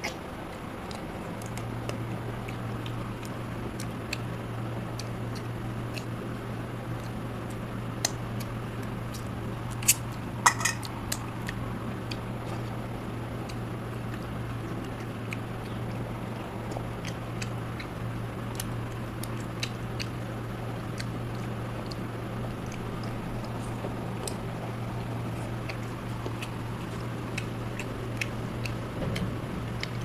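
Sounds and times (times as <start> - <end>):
low hum: 0.0 - 30.0
person chewing food: 0.0 - 30.0.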